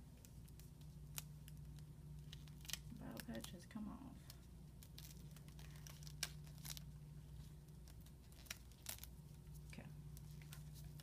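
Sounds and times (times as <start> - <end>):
plastic dressing crinkling: 0.1 - 11.0.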